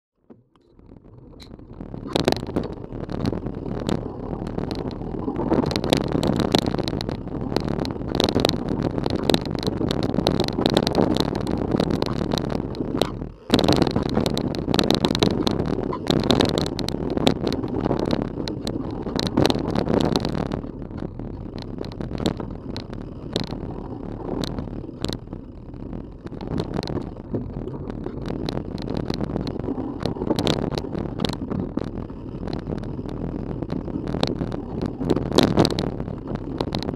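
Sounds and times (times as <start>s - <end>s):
bike tyre rumble: 0.2s - 36.9s
knocks and clatters over bumps: 0.2s - 36.9s
bike frame rattle: 0.4s - 36.9s.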